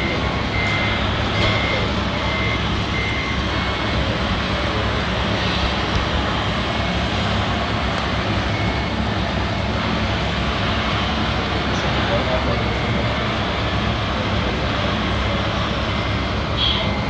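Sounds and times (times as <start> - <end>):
reversing beeper: 0.0 - 14.6, 15.3 - 17.0.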